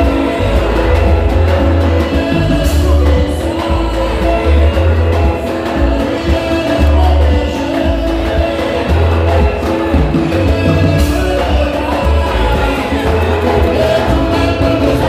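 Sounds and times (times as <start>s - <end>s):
live band through pa: 0.0s - 15.0s
man singing: 0.0s - 15.0s
pulsing bass line: 0.0s - 15.0s.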